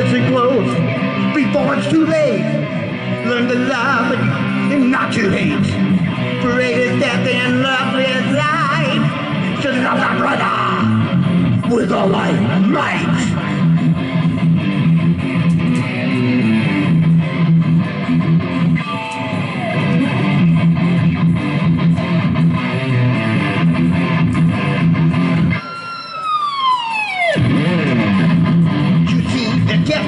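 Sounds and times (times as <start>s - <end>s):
electric guitar pitch bend: 0.0s - 30.0s
live rock band playing: 0.0s - 30.0s.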